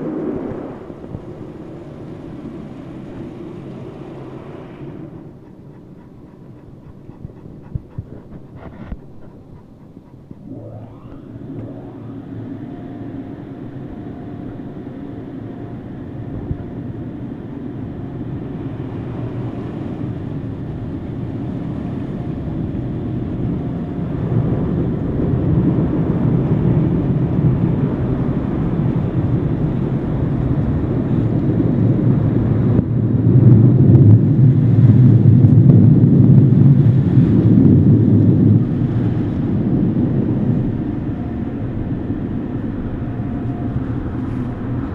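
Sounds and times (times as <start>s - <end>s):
car wash machinery roaring: 0.0s - 5.7s, 10.4s - 44.9s.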